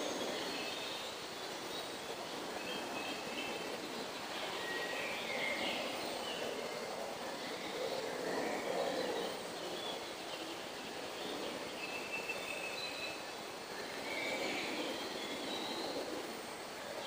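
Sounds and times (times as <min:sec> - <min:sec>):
distant bird calls: 0:00.0 - 0:17.0.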